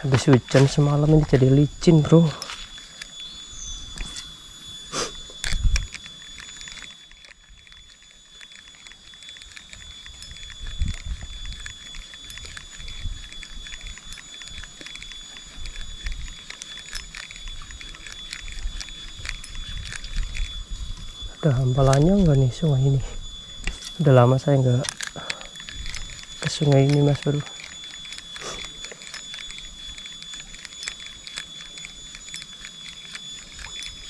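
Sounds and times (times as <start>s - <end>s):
fishing reel clicks and thumps: 0.0s - 34.0s
steady high-pitched whine: 0.0s - 34.0s.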